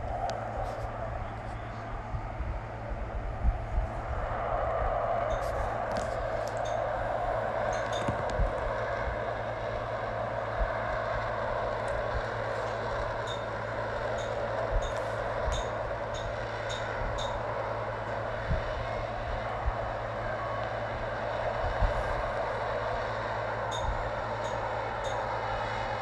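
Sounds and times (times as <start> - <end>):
jet engine roar: 0.0 - 26.0.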